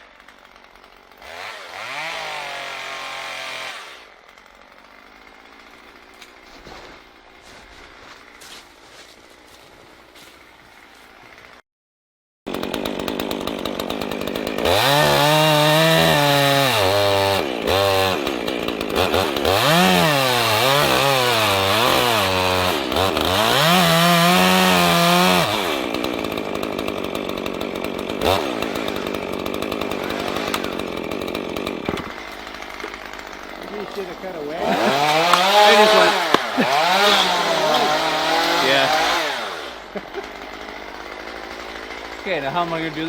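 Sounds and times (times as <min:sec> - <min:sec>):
chainsaw cutting wood: 0:00.0 - 0:11.6, 0:12.5 - 0:43.0.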